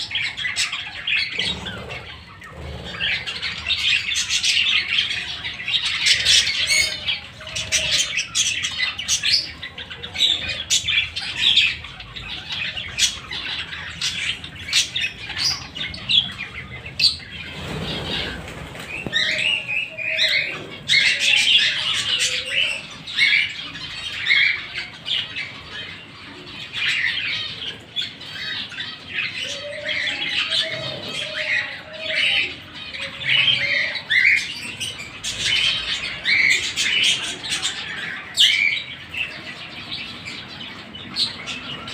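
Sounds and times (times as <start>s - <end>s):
budgerigars chirping and squawking: 0.0s - 41.9s.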